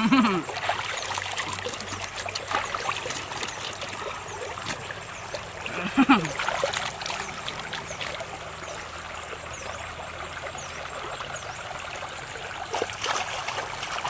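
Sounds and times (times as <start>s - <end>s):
stream babbling over rocks: 0.0s - 14.0s.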